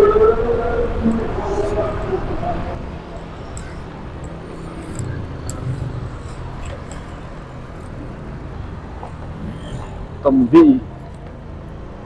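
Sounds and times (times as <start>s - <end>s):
rush of noise: 0.0s - 12.0s.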